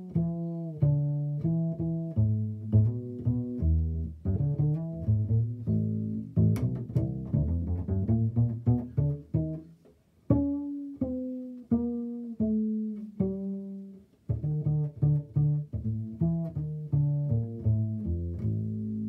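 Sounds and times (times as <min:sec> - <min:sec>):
double bass plucked: 0:00.0 - 0:19.0.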